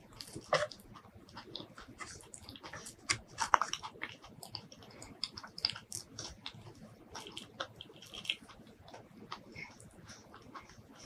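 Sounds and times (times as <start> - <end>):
wet chewing clicks and smacks: 0.0 - 11.0.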